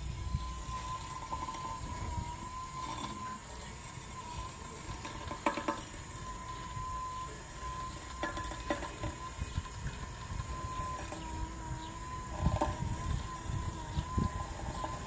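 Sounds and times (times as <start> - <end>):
gate motor whining: 0.0 - 15.0.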